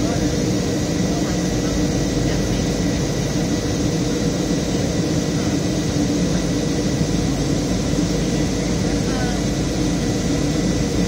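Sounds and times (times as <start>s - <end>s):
jet cabin engine and airflow rush: 0.0s - 11.0s.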